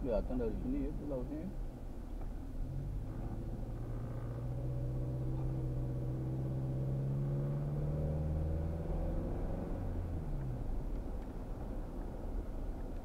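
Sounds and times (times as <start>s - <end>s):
road noise inside car: 0.0s - 13.0s
car engine accelerating: 2.1s - 13.0s.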